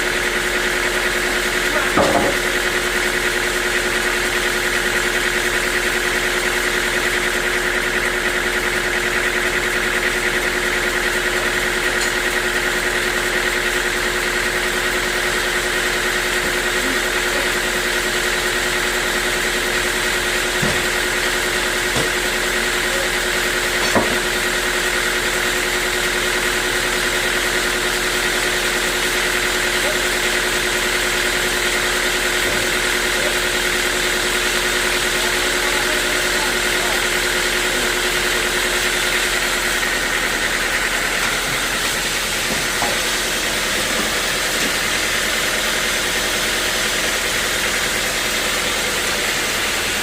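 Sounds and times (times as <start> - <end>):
sawmill machinery humming: 0.0 - 50.0.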